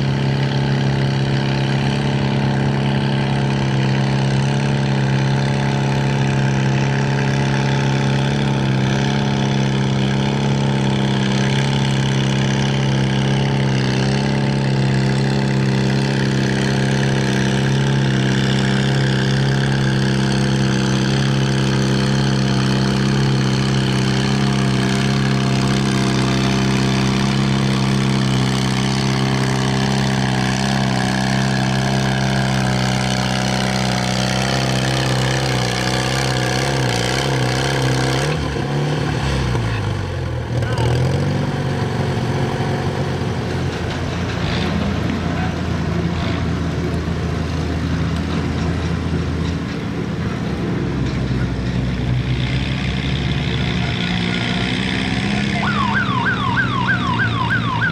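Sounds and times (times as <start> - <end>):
tractor engine under load: 0.0 - 57.9.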